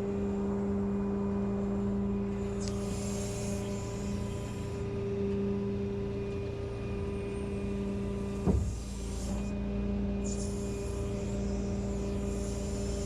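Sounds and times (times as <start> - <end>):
tow truck engine humming: 0.0 - 13.0.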